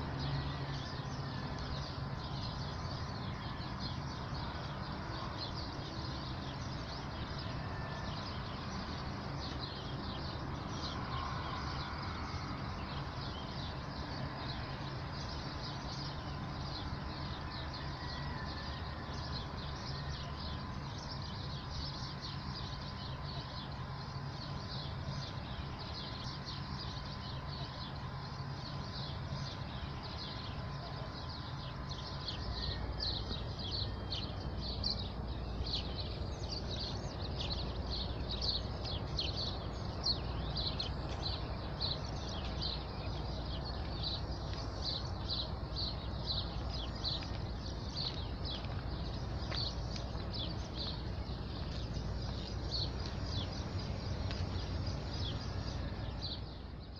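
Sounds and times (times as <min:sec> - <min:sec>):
birds chirping: 0:00.0 - 0:56.9
steady low rumble: 0:00.0 - 0:56.9.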